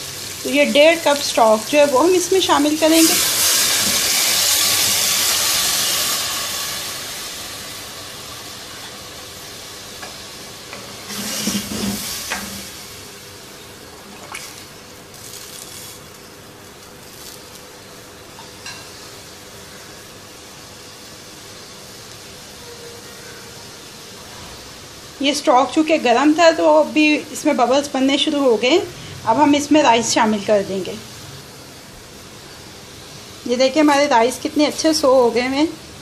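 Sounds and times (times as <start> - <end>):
stock sizzling and simmering: 0.0 - 36.0.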